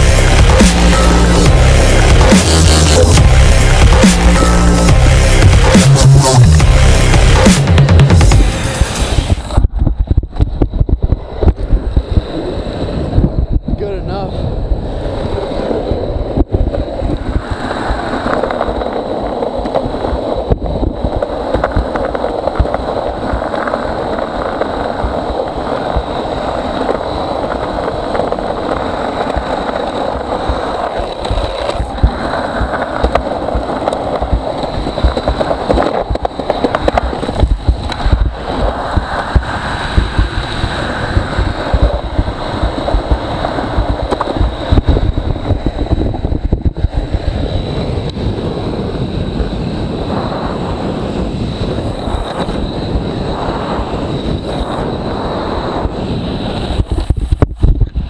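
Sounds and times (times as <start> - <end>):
skateboard wheels rolling on asphalt: 0.0 - 58.0
wind buffeting microphone: 8.3 - 58.0.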